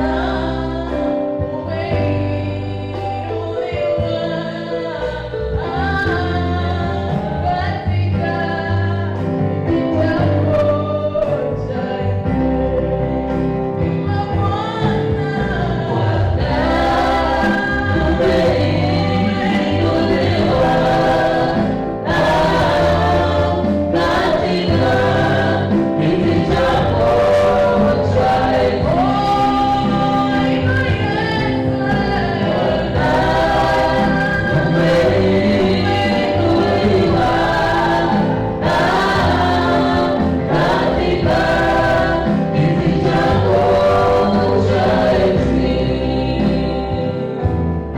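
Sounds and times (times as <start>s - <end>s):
bass line: 0.0s - 47.9s
gospel choir singing: 0.0s - 47.9s.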